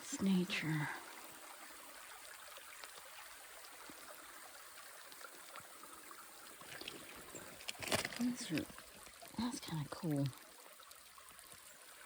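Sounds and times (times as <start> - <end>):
creek trickling over rocks: 0.0 - 12.0.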